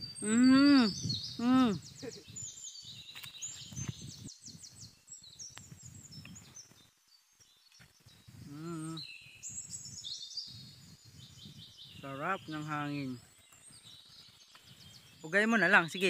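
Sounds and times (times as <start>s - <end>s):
birds chirping and twittering: 0.0s - 16.0s
breeze rustling leaves: 0.0s - 16.0s.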